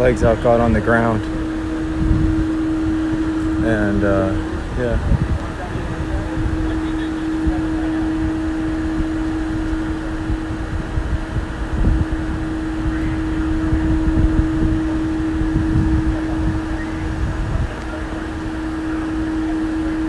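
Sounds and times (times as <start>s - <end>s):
low uneven rumble: 0.0s - 20.0s
steady mechanical hum: 0.0s - 20.0s.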